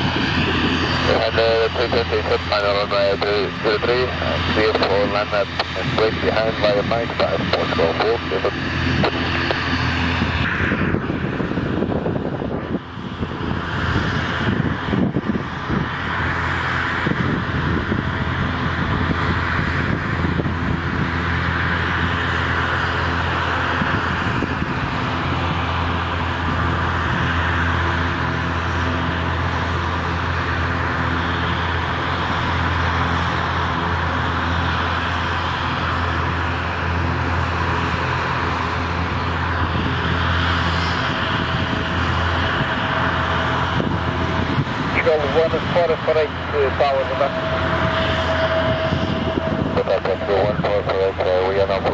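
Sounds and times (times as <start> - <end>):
jet engines drone: 0.0 - 51.9.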